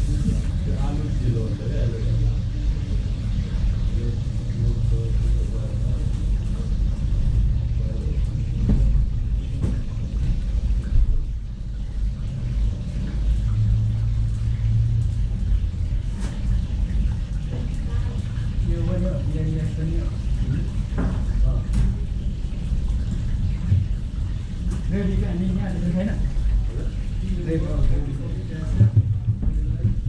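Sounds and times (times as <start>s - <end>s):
low kitchen rumble: 0.0s - 30.0s.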